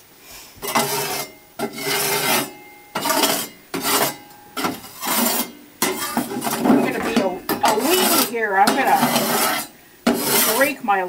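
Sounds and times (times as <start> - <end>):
metal scraper scraping soot: 0.6 - 10.9.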